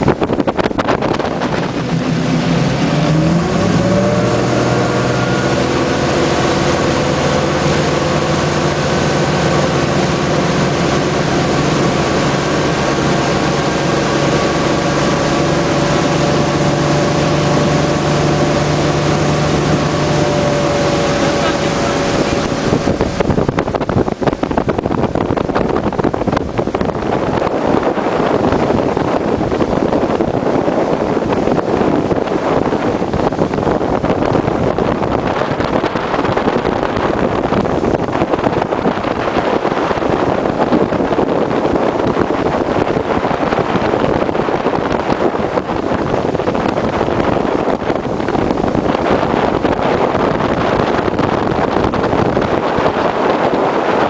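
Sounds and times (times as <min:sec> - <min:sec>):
boat engine: 0:00.0 - 0:54.0
water noise: 0:00.0 - 0:54.0
wind buffeting microphone: 0:00.0 - 0:54.0.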